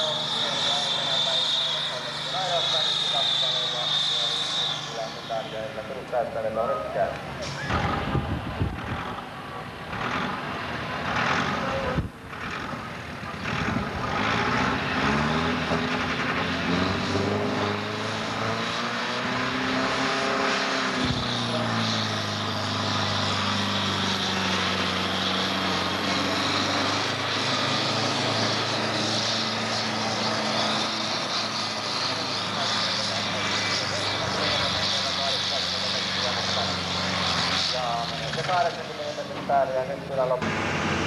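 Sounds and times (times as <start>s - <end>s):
tractor diesel engine at full throttle: 0.0s - 41.0s.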